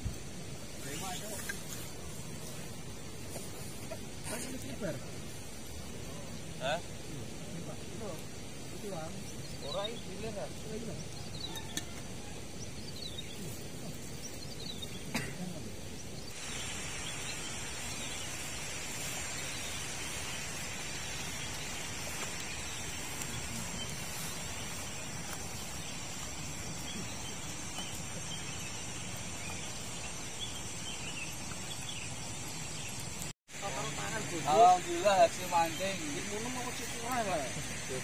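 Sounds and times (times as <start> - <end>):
birds chirping: 0.0 - 38.0
steady background hiss: 0.0 - 38.0.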